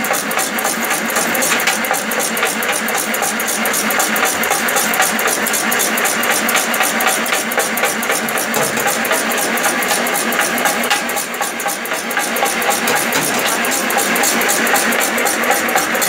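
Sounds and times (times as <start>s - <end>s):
machine clattering: 0.0s - 16.0s.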